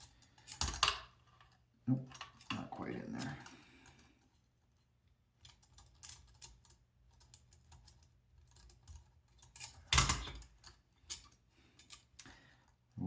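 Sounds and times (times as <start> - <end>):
light clicks and taps of parts: 0.0 - 12.9.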